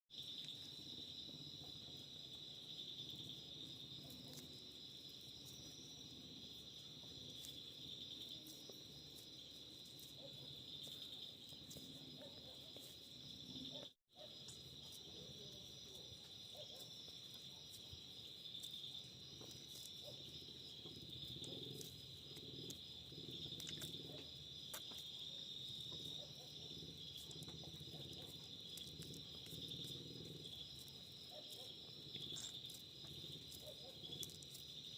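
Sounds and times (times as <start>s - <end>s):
crickets chirring: 0.1s - 34.9s.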